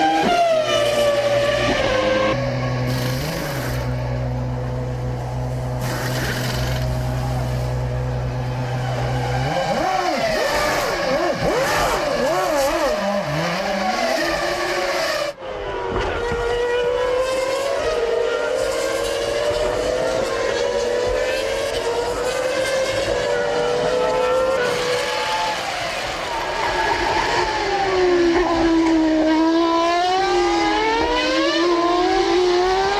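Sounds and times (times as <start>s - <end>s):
racing car engines at high revs: 0.0s - 32.9s.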